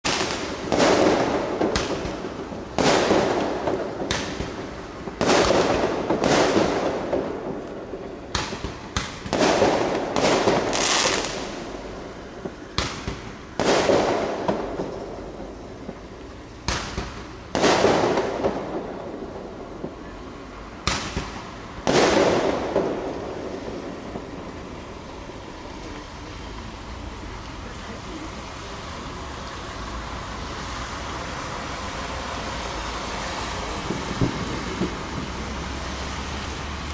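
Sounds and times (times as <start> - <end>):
fireworks bangs with echo: 0.0 - 36.9.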